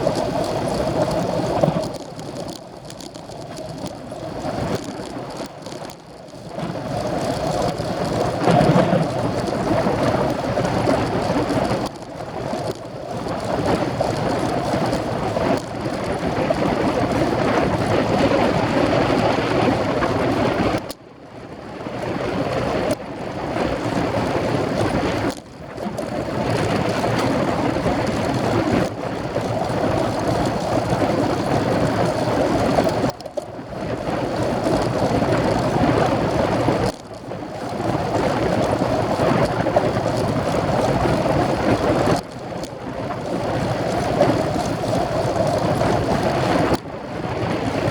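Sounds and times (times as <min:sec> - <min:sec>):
wind rushing over microphone: 0:00.0 - 0:20.9, 0:21.5 - 0:47.9.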